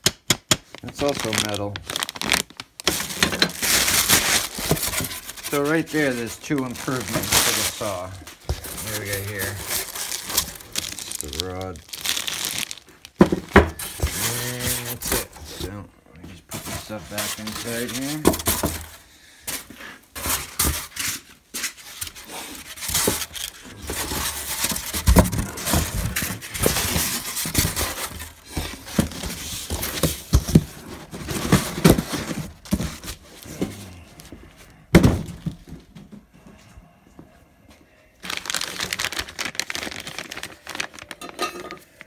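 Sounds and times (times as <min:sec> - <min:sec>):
packing material rustling: 0:00.6 - 0:15.8, 0:16.5 - 0:35.6, 0:38.2 - 0:42.0.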